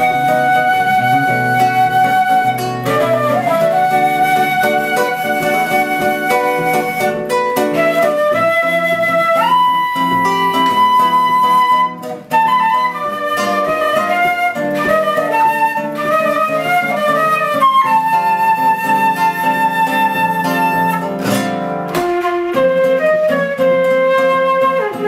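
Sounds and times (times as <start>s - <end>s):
flute melody: 0.0s - 25.0s
plucked guitar chords: 0.0s - 25.0s.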